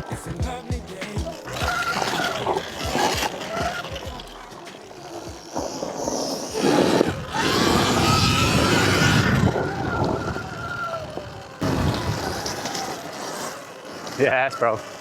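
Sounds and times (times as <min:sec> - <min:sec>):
electric dirt bike motor whining: 0:00.0 - 0:15.0.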